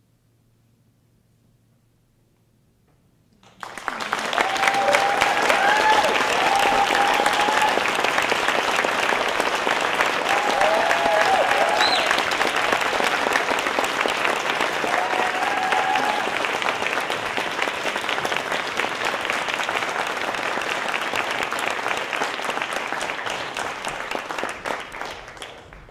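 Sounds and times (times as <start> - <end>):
audience applauding: 3.4 - 25.9.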